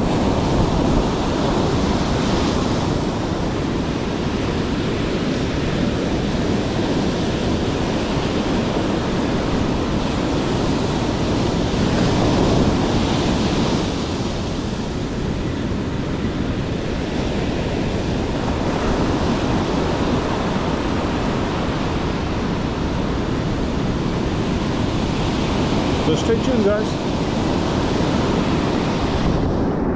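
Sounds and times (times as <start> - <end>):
sea surf: 0.0 - 29.9
wind buffeting microphone: 0.0 - 29.9.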